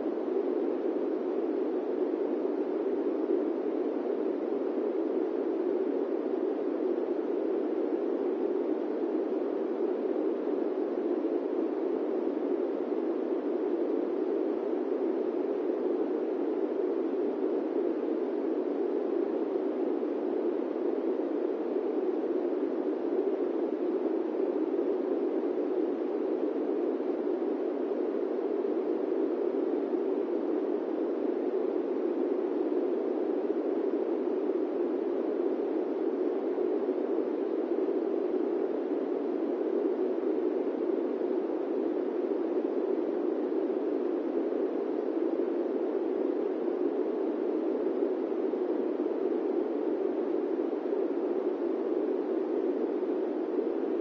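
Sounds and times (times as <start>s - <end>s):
airplane cabin white noise: 0.0s - 54.0s.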